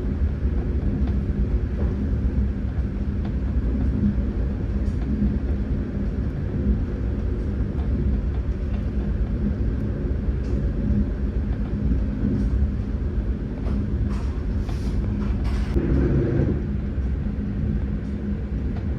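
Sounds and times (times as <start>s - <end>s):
train rumbling along track: 0.0s - 18.9s.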